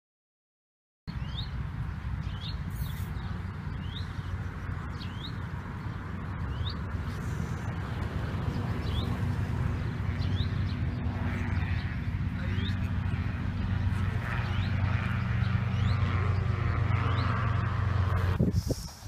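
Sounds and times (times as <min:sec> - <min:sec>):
bird rising chirp: 0:01.1 - 0:18.3
steady low rumble: 0:01.1 - 0:19.0.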